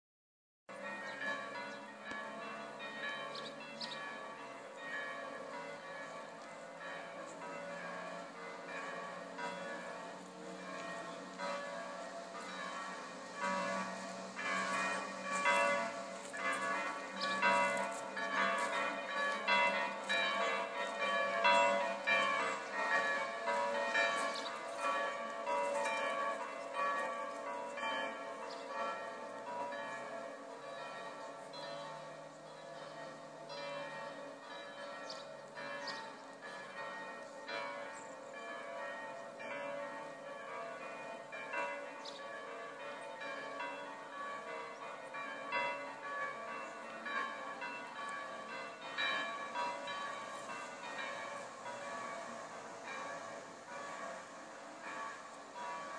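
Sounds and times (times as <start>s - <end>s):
church bells pealing: 0.7s - 55.9s.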